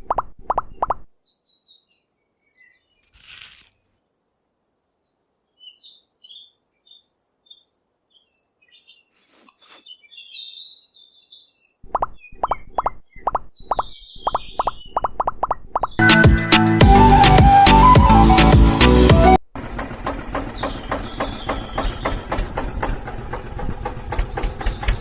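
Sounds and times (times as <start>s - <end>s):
small birds chirping: 0.0s - 4.0s, 4.9s - 16.1s, 20.0s - 25.0s.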